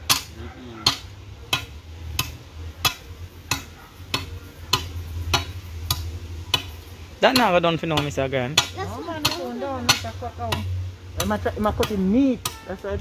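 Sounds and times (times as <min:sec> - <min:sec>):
hammer striking steel blade: 0:00.0 - 0:12.7.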